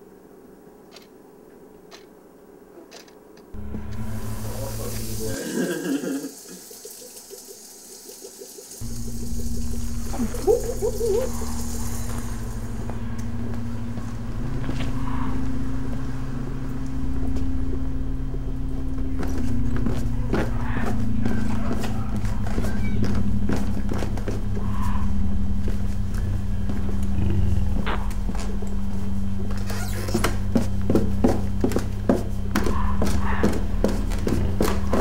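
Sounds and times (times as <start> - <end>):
low mechanical drone: 0.0 - 5.4, 8.8 - 35.0.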